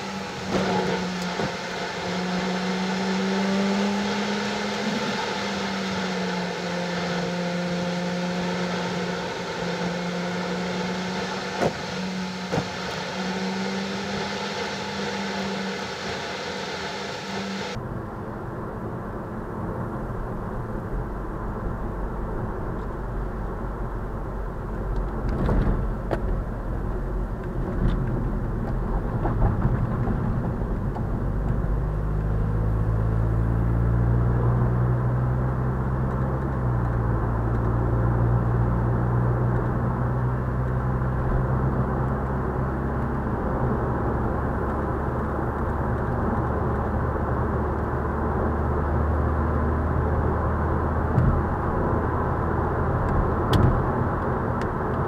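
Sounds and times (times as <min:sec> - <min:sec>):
car engine drone: 0:00.0 - 0:55.0
deep rumble of road noise: 0:00.0 - 0:55.0
road and wind noise: 0:00.0 - 0:55.0.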